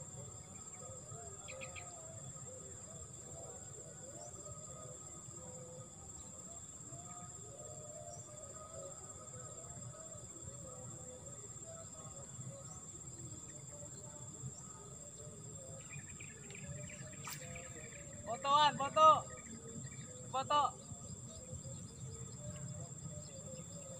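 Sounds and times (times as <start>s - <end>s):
cricket-like insect drone: 0.0s - 23.9s
faint outdoor ambience: 0.0s - 23.9s.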